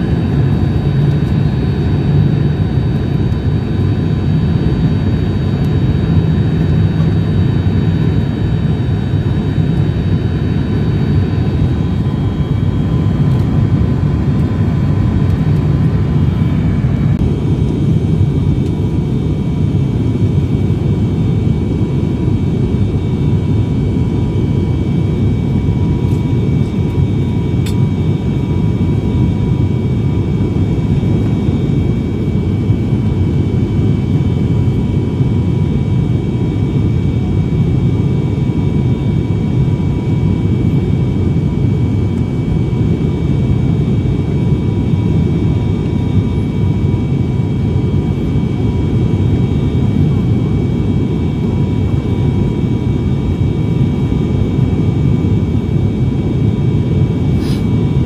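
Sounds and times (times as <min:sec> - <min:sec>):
propeller engine rumble: 0:00.0 - 0:58.0.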